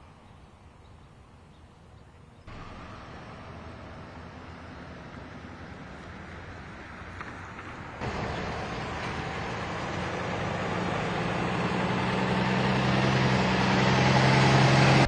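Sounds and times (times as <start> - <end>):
engine humming: 2.4 - 15.0.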